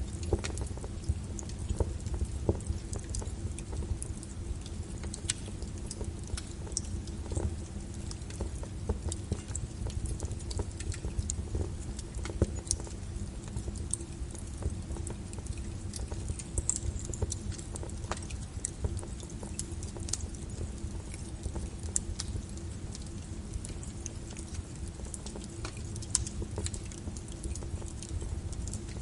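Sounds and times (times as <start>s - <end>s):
low rumble of fire: 0.0s - 29.0s
wood fire crackling: 0.0s - 29.0s.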